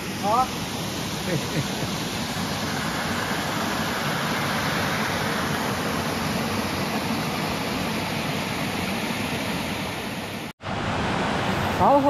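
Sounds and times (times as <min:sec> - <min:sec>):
river water over rapids: 0:00.0 - 0:12.0.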